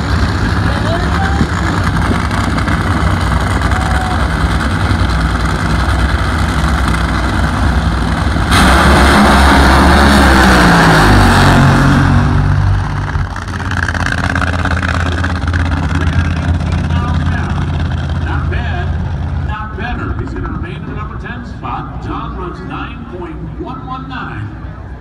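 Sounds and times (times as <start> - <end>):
drag racing engines: 0.0 - 25.0
engines blasting at full throttle: 0.0 - 25.0.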